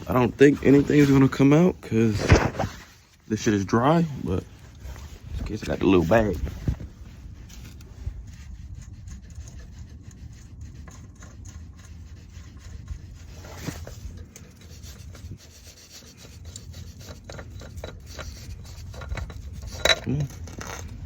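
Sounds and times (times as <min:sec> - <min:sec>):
faint rubbing and clicks: 0:00.0 - 0:21.0
oil filter scraping: 0:00.0 - 0:21.0.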